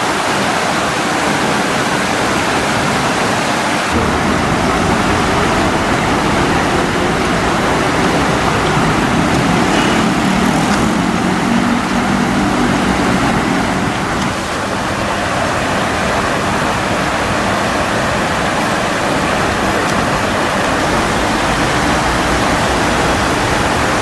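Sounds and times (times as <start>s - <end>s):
water gushing: 0.0s - 24.0s
vehicle engine humming: 3.9s - 24.0s.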